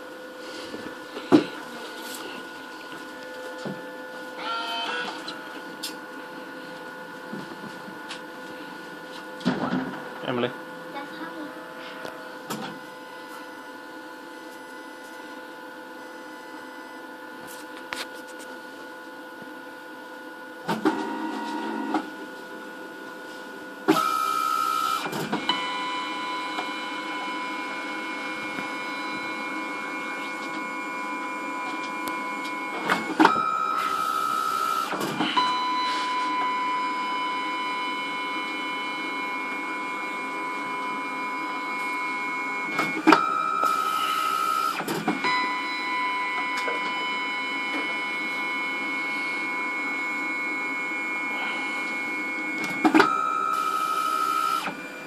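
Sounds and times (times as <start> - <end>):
printer motor whine: 0.0 - 11.1, 11.7 - 55.0.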